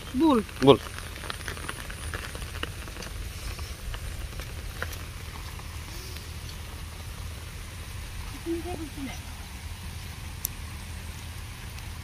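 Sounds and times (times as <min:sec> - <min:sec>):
light rain pattering: 0:00.0 - 0:12.0
steady low rumble: 0:00.0 - 0:12.0.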